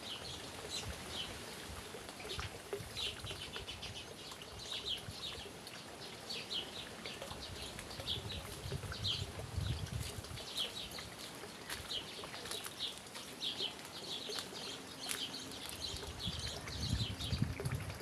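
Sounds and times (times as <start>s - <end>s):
small birds chirping: 2.2s - 17.6s.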